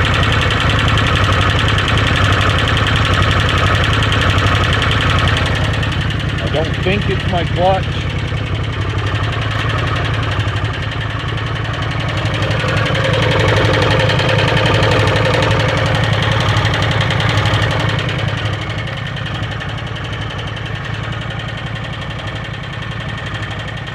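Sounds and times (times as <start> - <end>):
engine idling: 0.0 - 23.9
rapid engine tick: 0.0 - 23.9.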